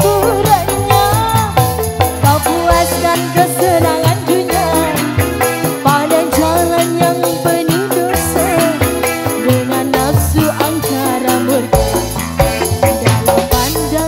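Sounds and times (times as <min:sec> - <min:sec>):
woman singing: 0:00.0 - 0:12.1, 0:13.4 - 0:14.0
high percussion strokes: 0:00.0 - 0:14.0
live band playing: 0:00.0 - 0:14.0.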